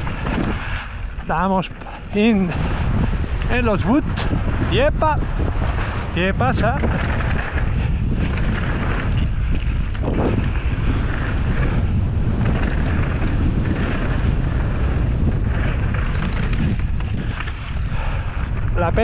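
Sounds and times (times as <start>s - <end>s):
bike tyres rolling over dirt: 0.0s - 19.0s
wind buffeting microphone: 0.0s - 19.0s.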